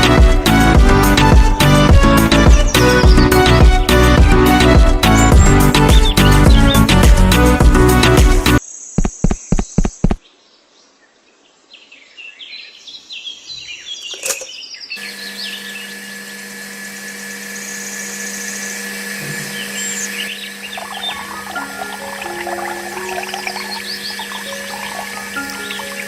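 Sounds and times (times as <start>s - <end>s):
birds chirping: 2.0s - 16.3s, 17.4s - 26.0s.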